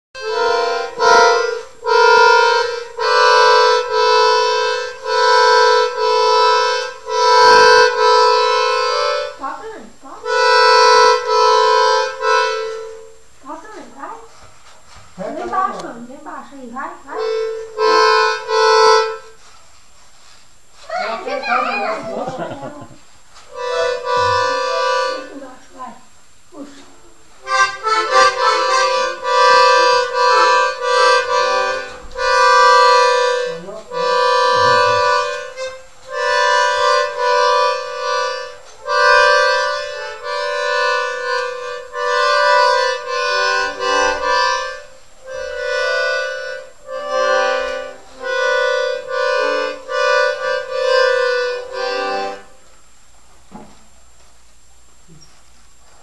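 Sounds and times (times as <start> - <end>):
toy accordion notes and chords: 0.2 - 14.2, 15.2 - 19.6, 23.3 - 26.0, 27.3 - 52.7.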